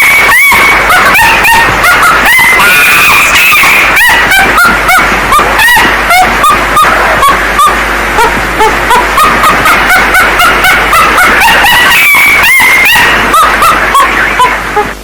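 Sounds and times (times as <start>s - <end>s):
distorted monkey hooting calls: 0.0s - 15.0s.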